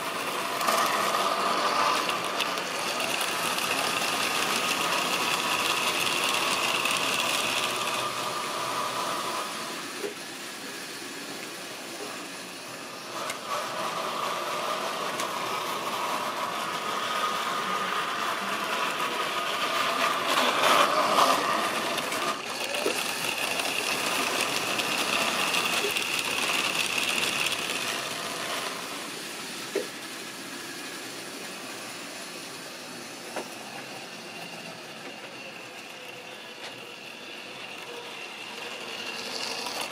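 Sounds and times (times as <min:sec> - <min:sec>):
electric locomotive motors whining: 0:00.0 - 0:39.9.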